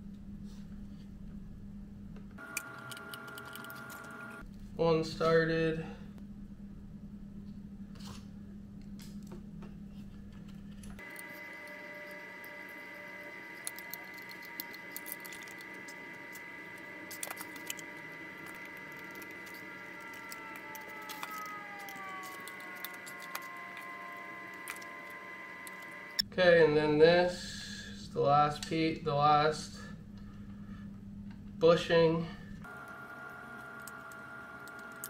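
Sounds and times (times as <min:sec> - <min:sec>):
background hum: 0:00.0 - 0:35.0
faint whine: 0:00.0 - 0:35.0.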